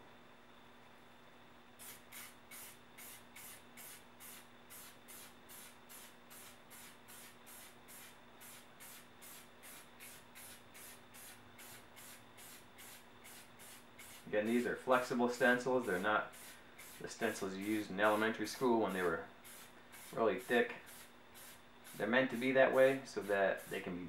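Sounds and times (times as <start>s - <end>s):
spray paint can hissing bursts: 1.8s - 24.0s.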